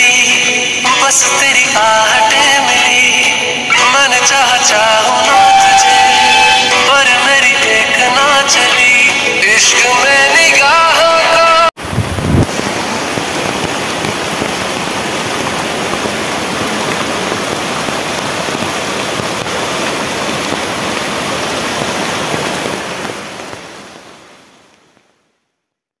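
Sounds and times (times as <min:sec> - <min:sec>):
floodwater rushing and splashing: 0:00.0 - 0:25.0.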